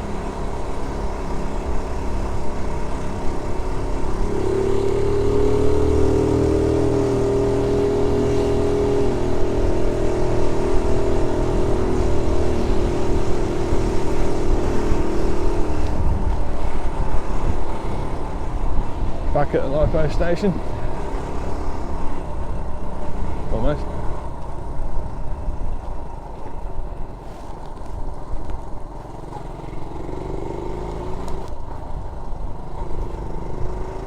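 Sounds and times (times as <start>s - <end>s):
wind rumble on microphone: 0.0s - 29.0s
small motorcycle engine running: 0.0s - 34.0s.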